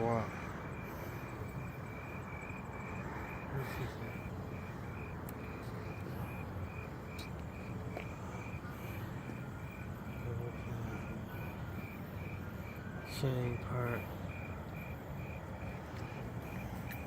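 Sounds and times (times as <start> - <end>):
cricket chirping: 0.0 - 17.0
low background rumble: 0.0 - 17.0.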